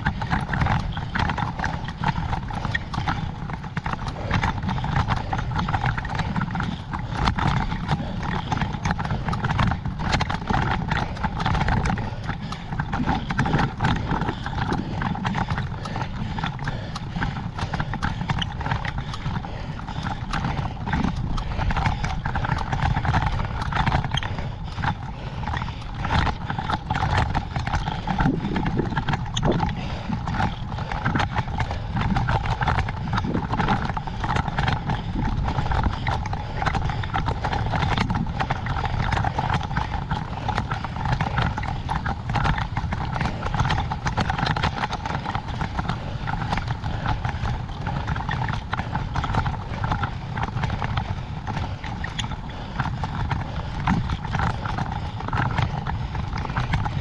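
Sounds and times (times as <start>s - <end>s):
irregular clicks and rattles: 0.0s - 57.0s
wind buffeting microphone: 0.0s - 57.0s.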